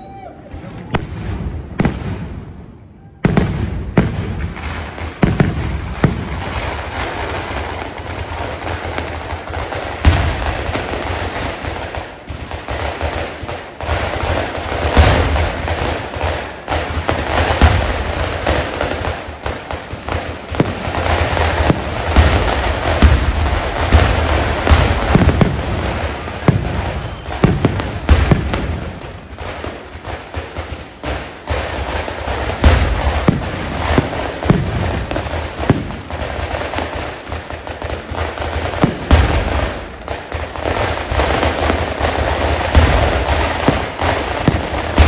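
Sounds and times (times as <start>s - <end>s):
fireworks bangs and crackling: 0.0s - 45.0s
deep fireworks booms: 0.1s - 45.0s.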